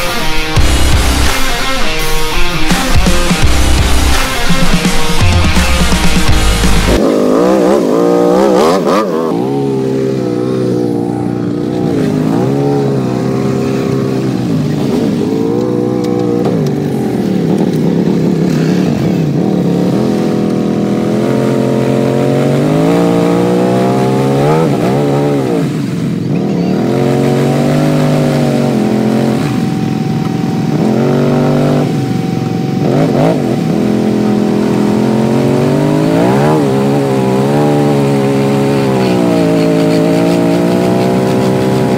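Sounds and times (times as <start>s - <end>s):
quad bike engine revving: 0.0s - 41.9s.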